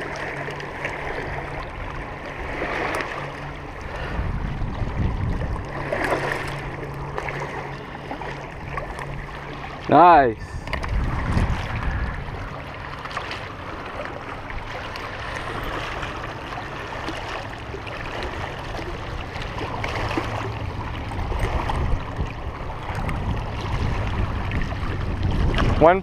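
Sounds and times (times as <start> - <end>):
waves lapping on rocky shore: 0.0 - 26.0
wind rumbling on microphone: 0.0 - 26.0.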